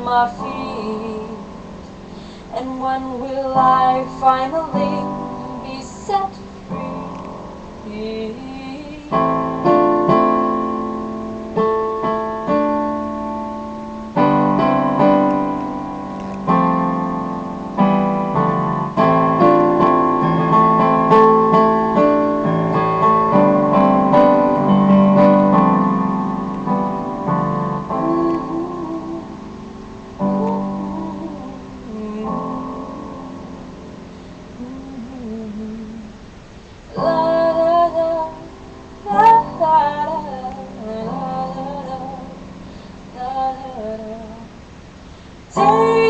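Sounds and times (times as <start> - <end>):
piano playing slow chords: 0.0 - 46.0.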